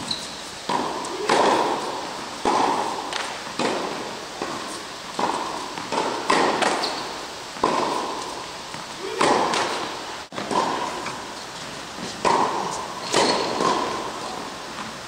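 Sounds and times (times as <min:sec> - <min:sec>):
tennis ball bouncing: 0:00.6 - 0:14.9
tennis racket strikes: 0:00.6 - 0:14.9.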